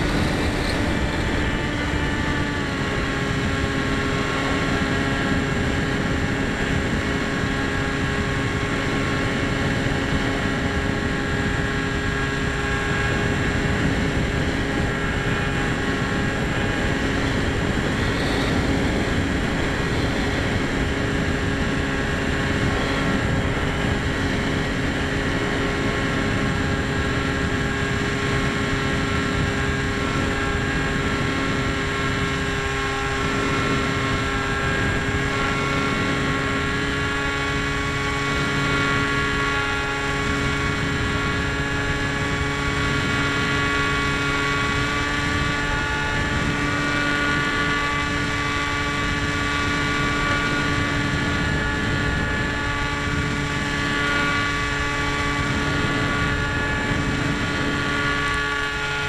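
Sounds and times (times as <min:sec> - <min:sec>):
electric motor whine: 0:00.0 - 0:59.0
wind rushing across microphone: 0:00.0 - 0:59.0.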